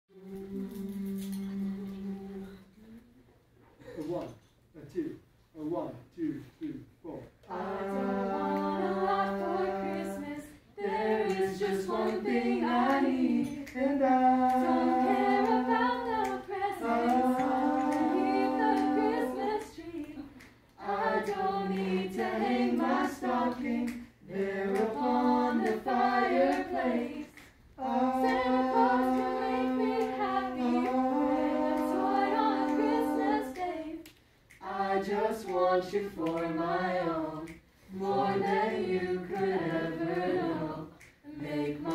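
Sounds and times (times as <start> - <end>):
group singing a cappella: 0.1 - 3.2, 7.3 - 41.9.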